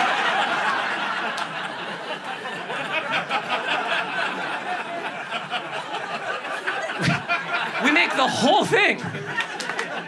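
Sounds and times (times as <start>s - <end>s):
audience laughing: 0.0s - 10.0s.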